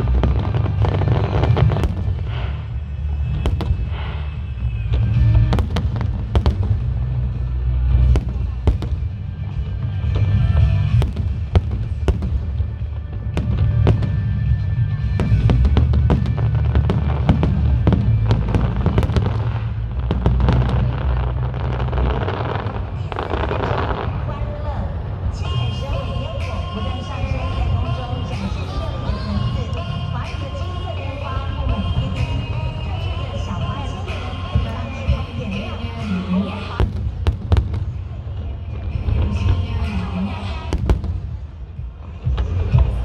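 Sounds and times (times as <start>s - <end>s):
fireworks bursting: 0.0s - 43.0s
low rumble: 0.0s - 43.0s
music: 0.0s - 43.0s.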